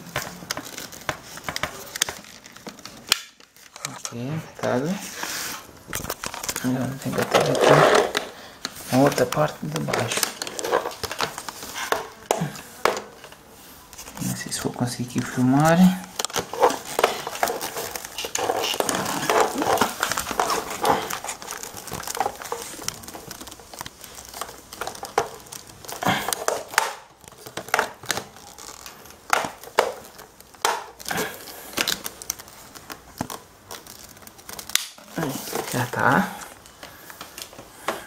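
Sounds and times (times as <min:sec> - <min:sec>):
plastic parts clicking and knocking: 0:00.0 - 0:04.8, 0:05.9 - 0:13.4, 0:14.0 - 0:38.0
plastic wrapping crinkling: 0:00.0 - 0:38.0.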